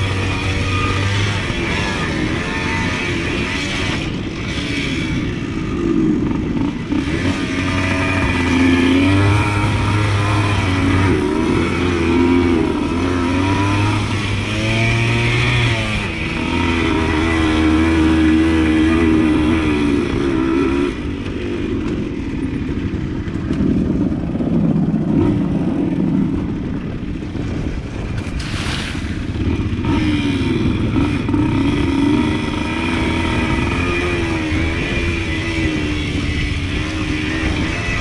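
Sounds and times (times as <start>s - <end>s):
two-stroke dirt bike engine revving: 0.0s - 38.0s.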